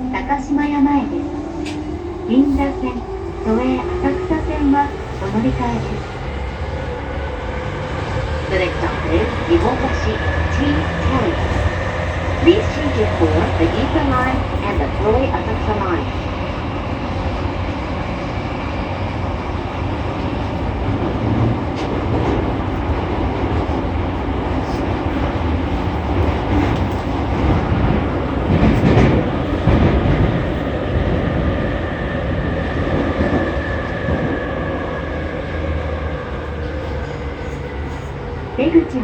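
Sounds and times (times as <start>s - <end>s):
train wheel and rail rumble: 0.0s - 39.0s.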